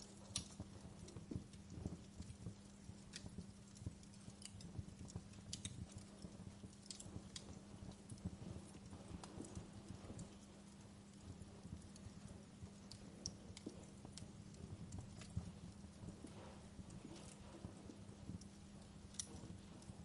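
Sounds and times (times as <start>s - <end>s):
faint low hum: 0.0s - 20.0s
wood fire crackling: 0.0s - 20.0s.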